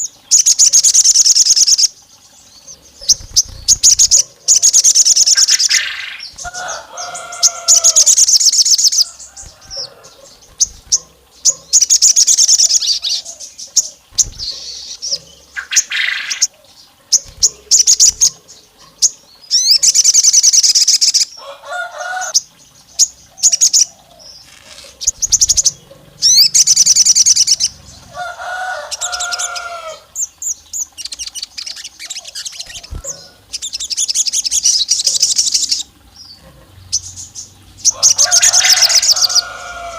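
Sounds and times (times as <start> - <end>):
songbird trilling: 0.0 - 39.9.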